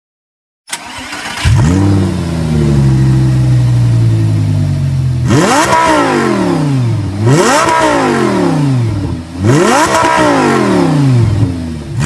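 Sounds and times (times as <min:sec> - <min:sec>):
sports car engine starting and revving: 0:00.7 - 0:12.0.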